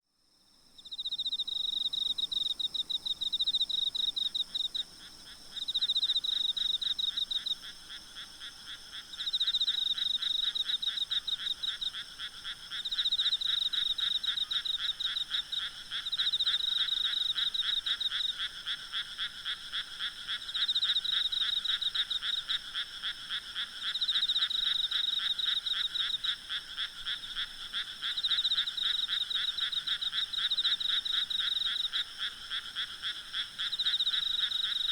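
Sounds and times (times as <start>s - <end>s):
frogs trilling: 0.9s - 34.9s.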